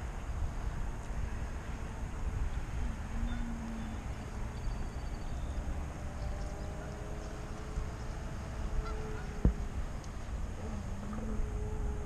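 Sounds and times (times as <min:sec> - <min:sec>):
faint drawn-out tones: 0:00.0 - 0:12.0
wind rumbling on microphone: 0:00.0 - 0:12.0.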